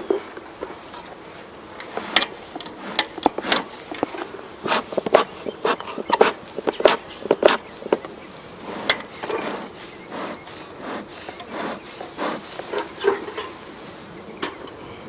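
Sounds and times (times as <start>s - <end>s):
wooden hive frames scraping: 0.0s - 14.0s
bees buzzing: 1.6s - 14.2s.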